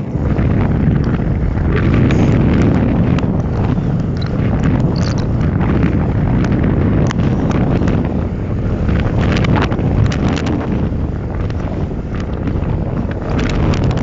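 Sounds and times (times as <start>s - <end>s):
bicycle clicks and rattles: 0.0s - 14.0s
wind buffeting microphone: 0.0s - 14.0s.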